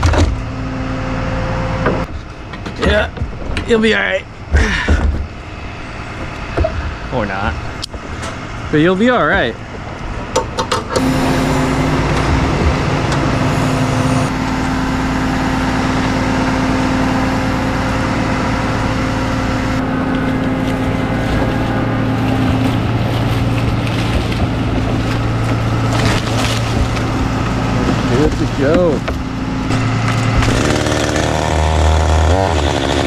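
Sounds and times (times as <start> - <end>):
truck engine and hydraulic boom: 4.4 - 33.0.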